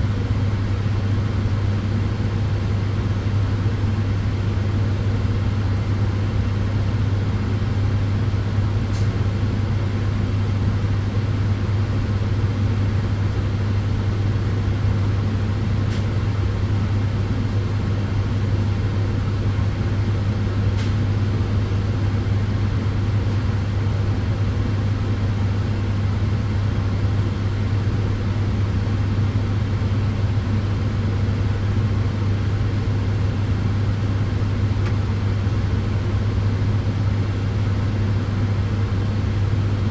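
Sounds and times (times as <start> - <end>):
cooling fans rushing: 0.0 - 39.9.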